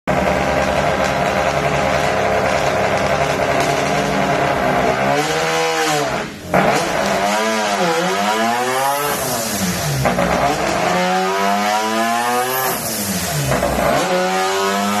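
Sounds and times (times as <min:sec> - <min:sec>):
rotary engine revving: 0:00.1 - 0:15.0.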